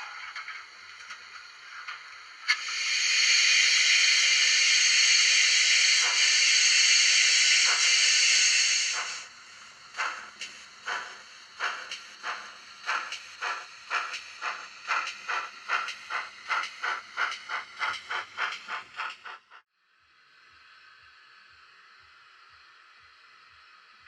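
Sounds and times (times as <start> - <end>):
steady hiss: 0.0 - 19.4
model steam locomotive chuffs: 0.0 - 19.6.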